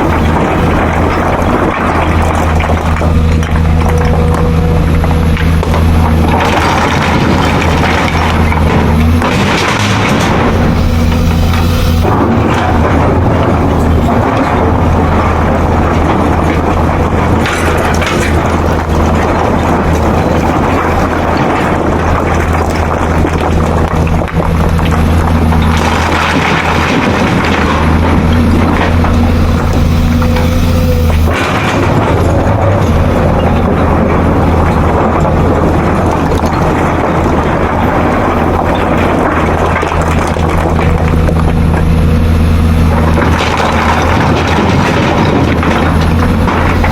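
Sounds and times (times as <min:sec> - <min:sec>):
excavator diesel engine droning: 0:00.0 - 0:46.9
rough mechanical noise: 0:00.0 - 0:46.9.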